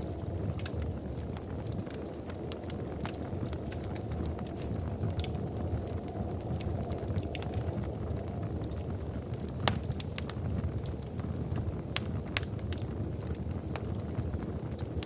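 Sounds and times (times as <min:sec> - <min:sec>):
fire low rumble: 0:00.0 - 0:15.0
fire pops and snaps: 0:00.0 - 0:15.0.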